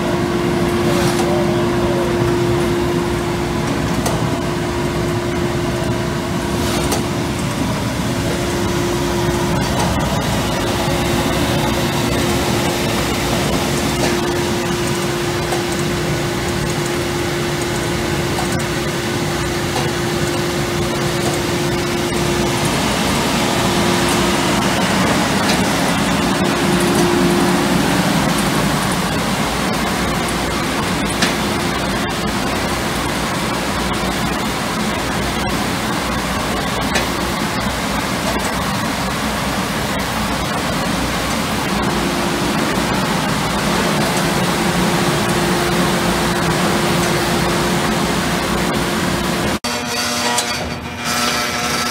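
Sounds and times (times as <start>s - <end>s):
gas burner rushing: 0.0s - 49.7s
steady hum: 0.0s - 51.9s.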